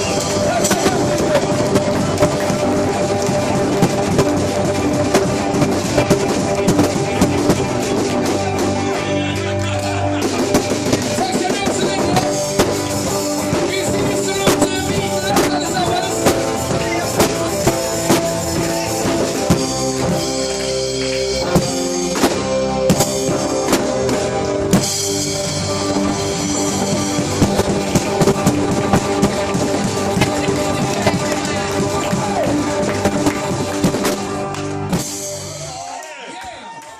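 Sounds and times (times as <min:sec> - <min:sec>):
live band music: 0:00.0 - 0:36.0.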